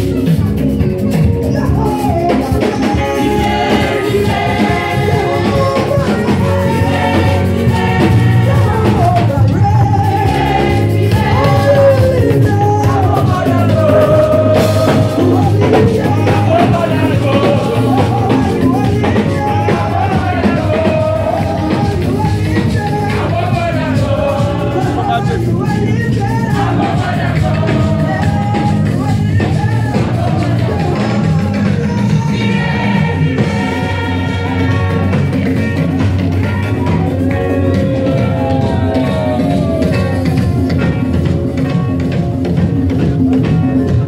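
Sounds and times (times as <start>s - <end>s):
band with drum kit: 0.0s - 44.0s
voices singing: 1.3s - 41.7s.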